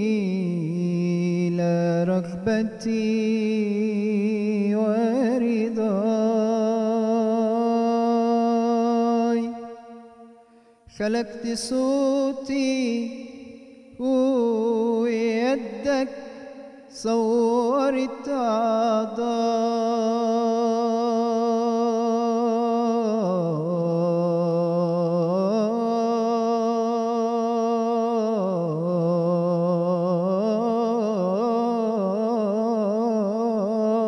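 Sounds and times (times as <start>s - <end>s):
man singing unaccompanied: 0.0s - 10.2s, 10.9s - 34.0s.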